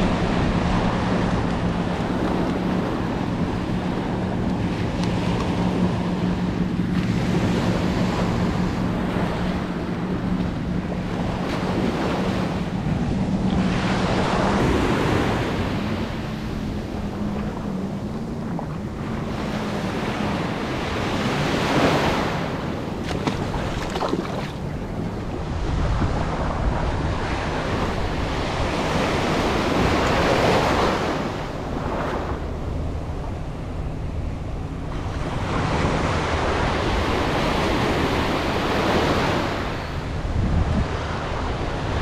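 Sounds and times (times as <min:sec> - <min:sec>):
steady low hum: 0:00.0 - 0:42.0
surf washing up a beach: 0:00.0 - 0:42.0
wind buffeting microphone: 0:00.0 - 0:42.0.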